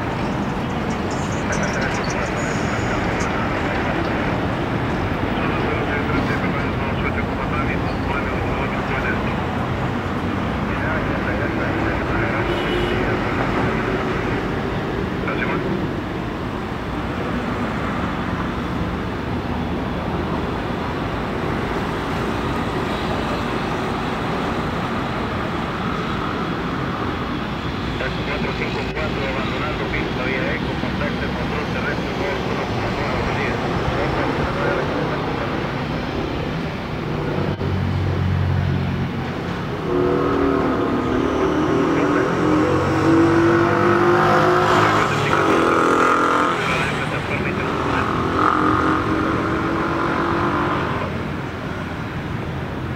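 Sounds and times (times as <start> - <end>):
jet engines rumbling: 0.0 - 43.3, 46.5 - 49.4.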